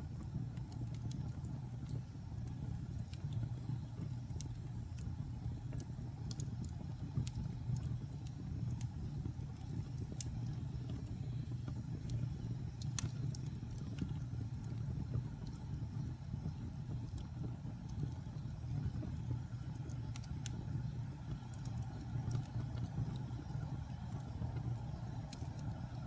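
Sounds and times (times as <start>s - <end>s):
fire flames rumbling: 0.0s - 26.0s
fire popping and crackling: 0.0s - 26.0s.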